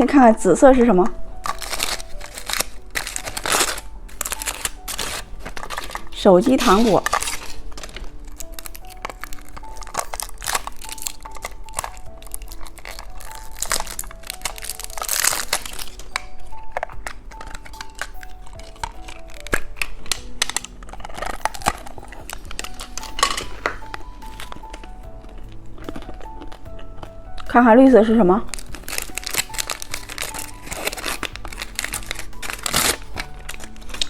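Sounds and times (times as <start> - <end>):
plastic packaging crinkling: 0.0 - 34.0
plinking background music: 0.0 - 34.0.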